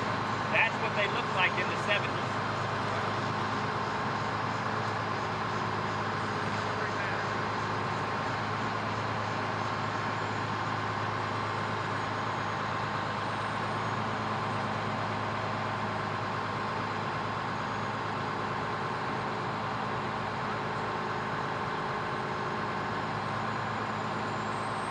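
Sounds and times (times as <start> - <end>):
fire truck engine running: 0.0 - 24.9.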